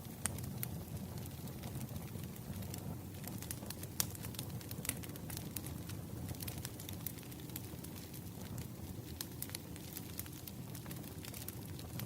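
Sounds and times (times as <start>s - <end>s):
firewood crackling and popping: 0.0s - 12.0s
low fire rumble: 0.0s - 12.0s.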